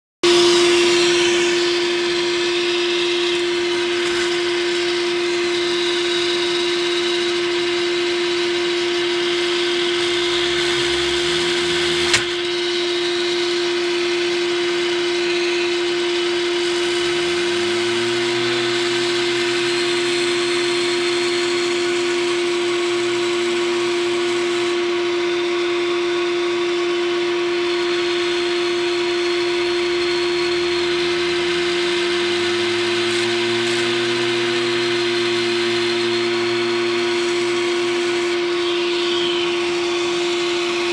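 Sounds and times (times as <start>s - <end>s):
computer fan spinning up: 0.2s - 40.9s
vacuum cleaner motor whining: 0.2s - 40.9s.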